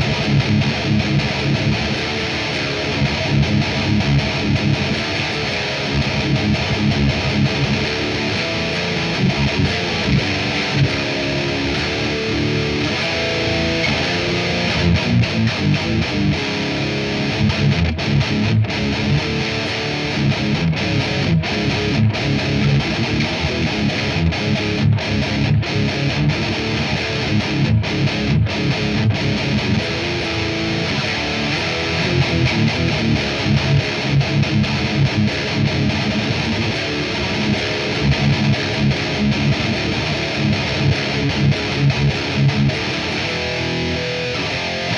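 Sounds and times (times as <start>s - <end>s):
distorted electric guitar riffs: 0.0s - 44.9s.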